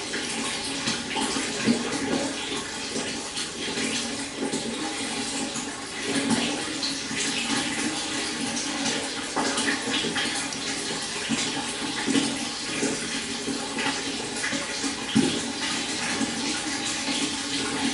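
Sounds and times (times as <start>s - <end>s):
water splashes and trickles: 0.0s - 17.9s.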